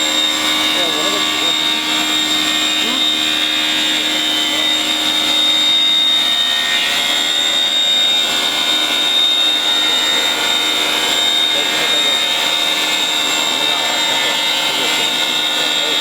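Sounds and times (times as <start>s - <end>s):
machine high-pitched whine: 0.0s - 16.0s
mechanical hum: 0.0s - 16.0s.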